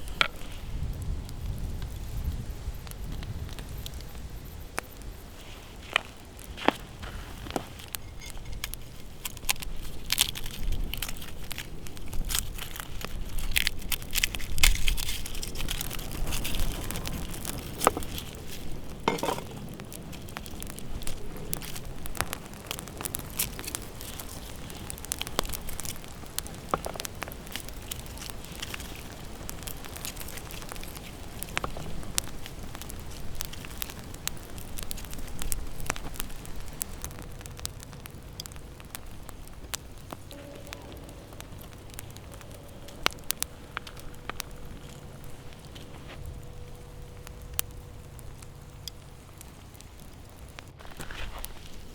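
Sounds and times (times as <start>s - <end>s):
campfire crackling and popping: 0.0s - 51.9s
loud crunching sounds: 4.8s - 51.9s.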